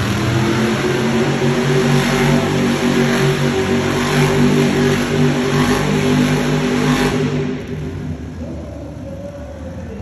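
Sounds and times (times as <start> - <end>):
truck engine revving: 0.0 - 8.5.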